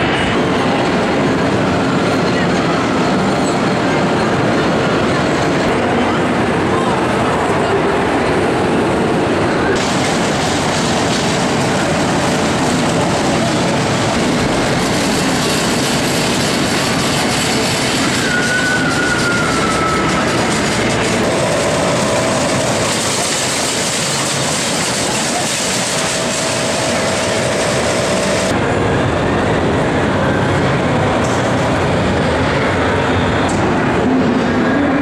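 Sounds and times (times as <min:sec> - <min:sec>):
roller coaster rail rumble and clatter: 0:00.0 - 0:35.0.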